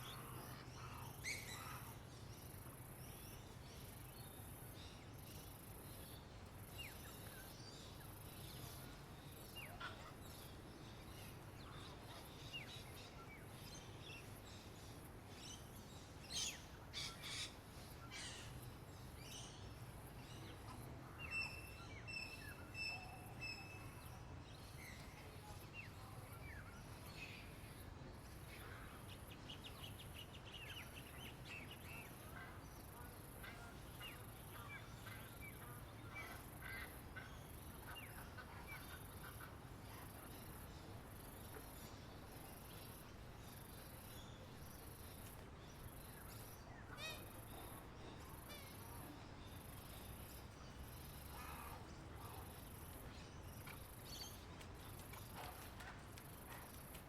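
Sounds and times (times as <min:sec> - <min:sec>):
low background noise: 0:00.0 - 0:57.0.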